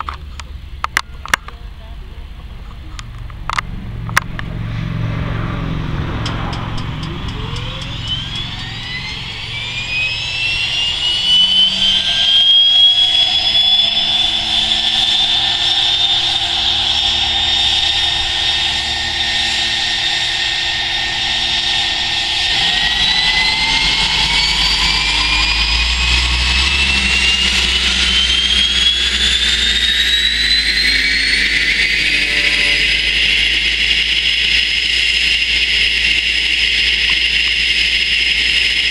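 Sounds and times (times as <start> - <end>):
propeller rumble: 0.0 - 38.9
turboprop engine starting up: 0.0 - 38.9.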